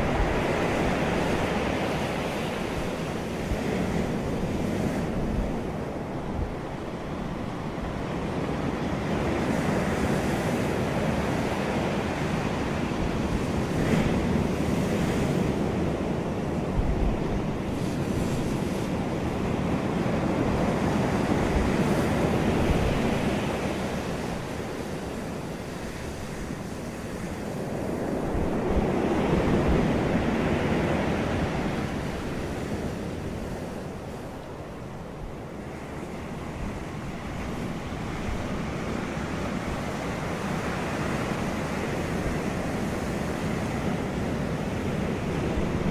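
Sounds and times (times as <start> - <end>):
ocean waves washing in: 0.0 - 45.9.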